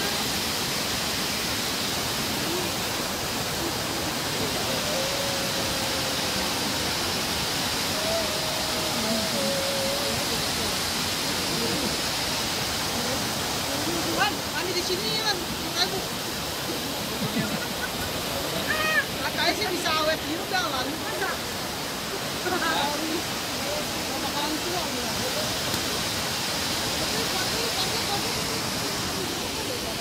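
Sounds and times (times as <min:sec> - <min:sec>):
faint voices: 0:00.0 - 0:30.0
waterfall rushing: 0:00.0 - 0:30.0.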